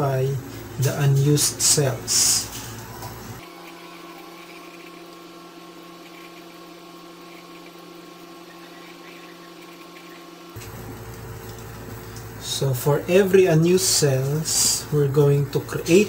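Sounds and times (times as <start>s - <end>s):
faint hum and hiss: 0.0s - 16.0s.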